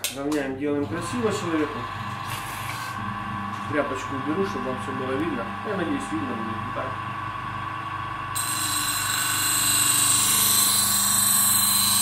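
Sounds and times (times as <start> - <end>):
electric grinder motor humming: 0.8 - 12.0.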